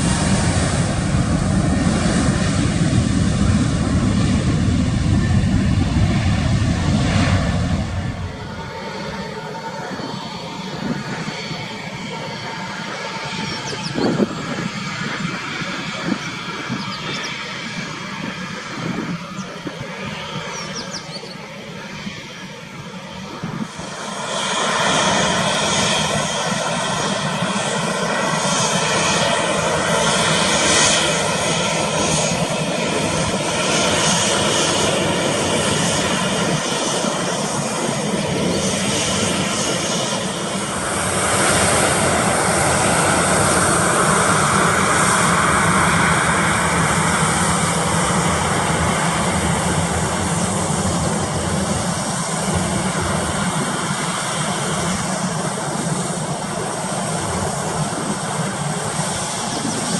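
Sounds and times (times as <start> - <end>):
airliner engines at takeoff: 0.0 - 59.9.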